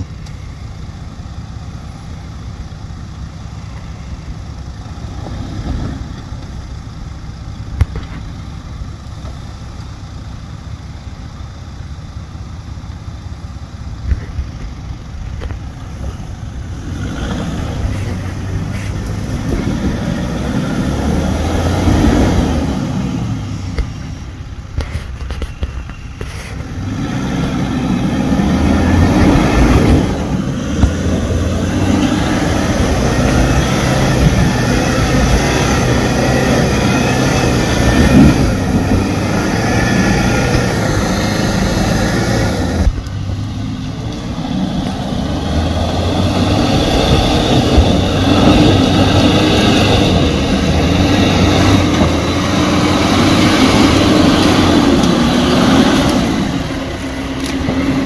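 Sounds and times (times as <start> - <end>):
engine pulling under load: 0.0 - 58.0.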